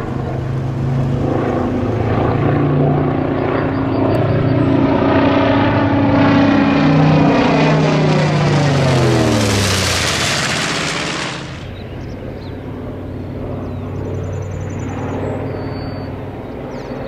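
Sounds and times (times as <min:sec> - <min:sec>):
airplane engines roaring overhead: 0:00.0 - 0:17.0
propeller drone: 0:00.0 - 0:17.0.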